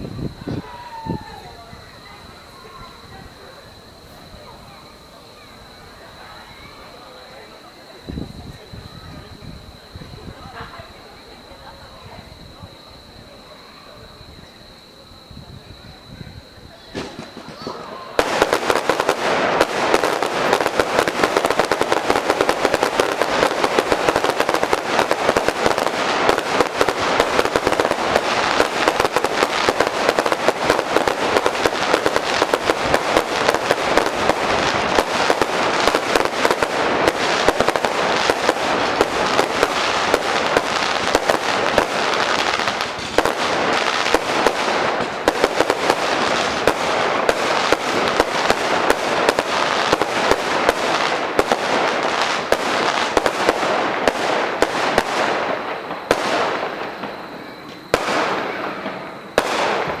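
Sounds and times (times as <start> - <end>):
fireworks bangs and crackles: 0.0 - 60.0.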